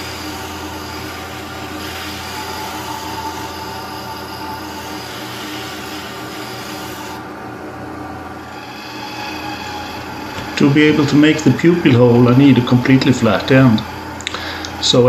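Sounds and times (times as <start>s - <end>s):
hand rubbing spinning dowel: 0.0s - 7.3s, 8.4s - 15.0s
lathe motor hum: 0.0s - 15.0s.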